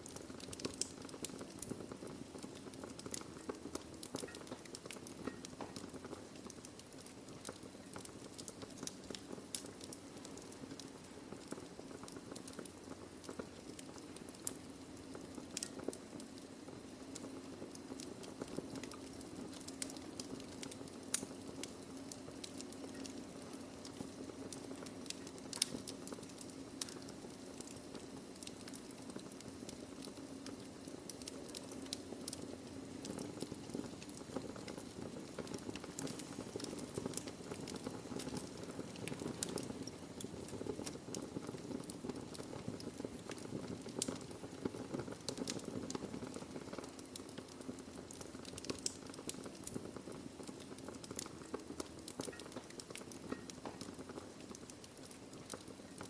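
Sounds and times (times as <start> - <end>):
fire roaring low: 0.0 - 56.0
logs crackling in a fireplace: 0.0 - 56.0.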